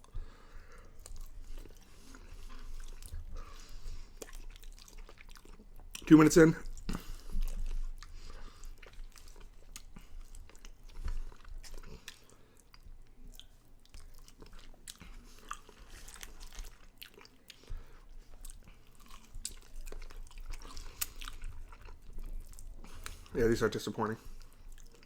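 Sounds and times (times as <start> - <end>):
wet chewing: 0.0 - 25.0
lip smacks: 1.0 - 23.4.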